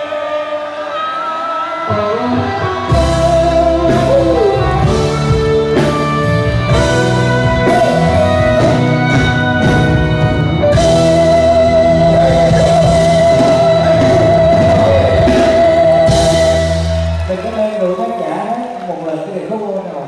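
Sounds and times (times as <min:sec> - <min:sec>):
live pop-rock band music: 0:00.0 - 0:20.0.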